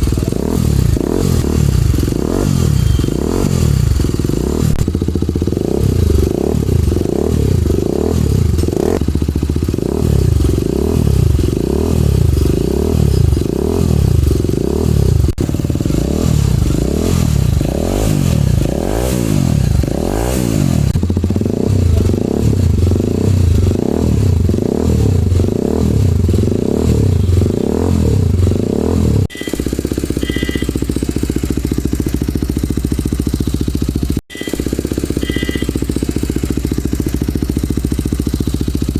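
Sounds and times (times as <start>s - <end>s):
motorcycle engine idling: 0.0s - 38.9s
motorcycle engine revving: 0.0s - 38.9s.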